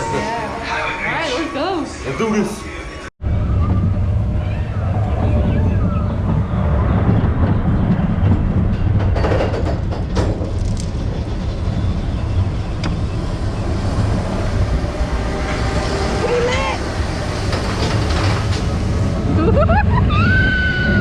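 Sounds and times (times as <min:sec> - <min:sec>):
roller coaster train rumbling: 0:00.0 - 0:21.0.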